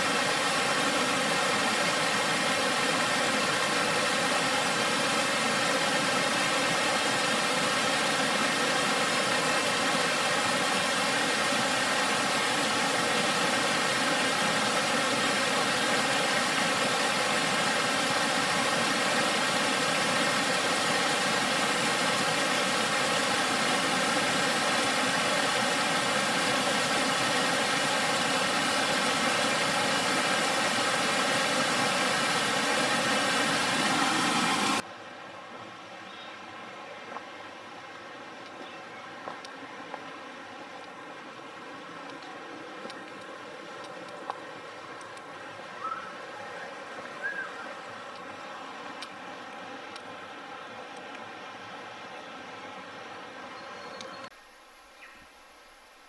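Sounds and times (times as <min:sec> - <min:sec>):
waterfall roaring: 0:00.0 - 0:34.8, 0:39.2 - 0:54.2.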